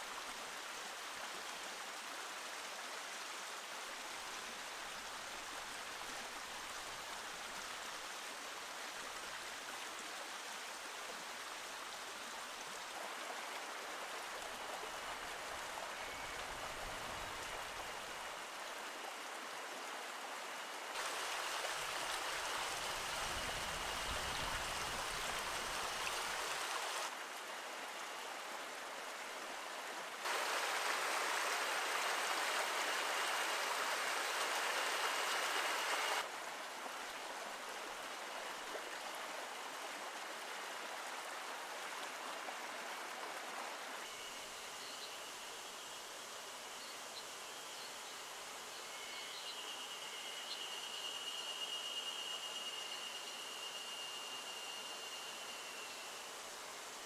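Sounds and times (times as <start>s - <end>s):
stream water rushing: 0.0s - 49.0s, 51.4s - 57.0s.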